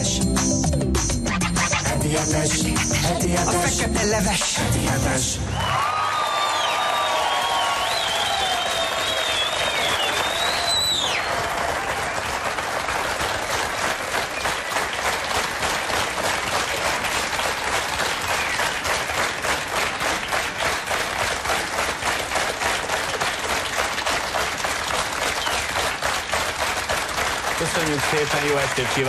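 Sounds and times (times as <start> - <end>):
audience clapping in rhythm: 0.0 - 29.0.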